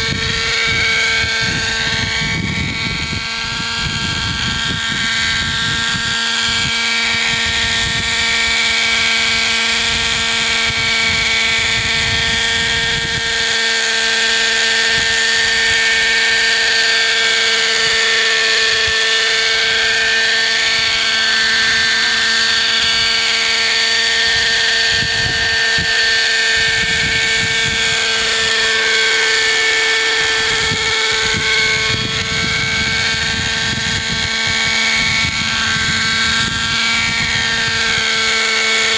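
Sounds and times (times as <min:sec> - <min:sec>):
model helicopter engine and rotors: 0:00.0 - 0:38.9.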